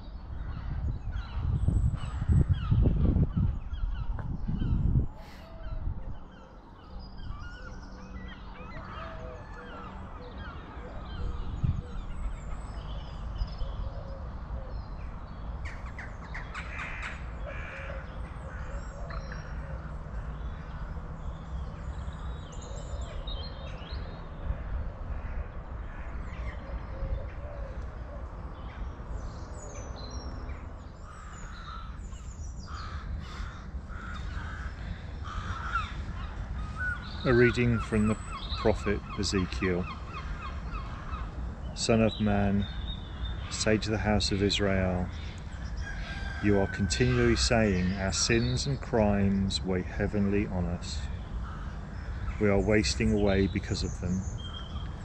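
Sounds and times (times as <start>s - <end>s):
birds calling and chirping: 0.0s - 55.0s.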